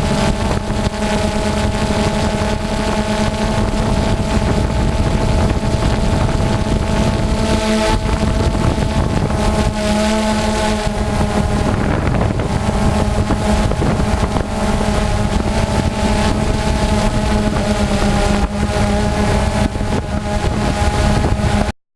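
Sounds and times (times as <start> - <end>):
wind on the microphone: 0.0 - 21.7
quadcopter motors and propellers: 0.0 - 21.8.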